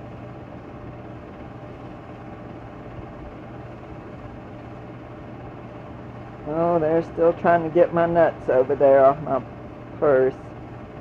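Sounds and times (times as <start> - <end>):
film projector whirring: 0.0 - 11.0.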